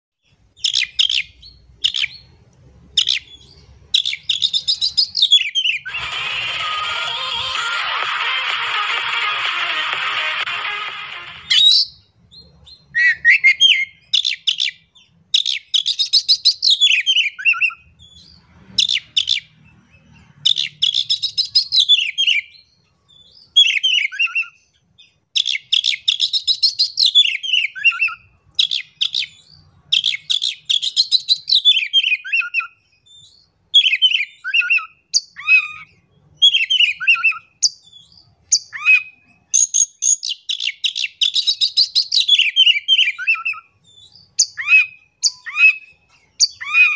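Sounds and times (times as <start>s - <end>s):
bird singing trills and whistles: 0.6s - 2.3s, 3.0s - 8.2s, 11.4s - 46.9s.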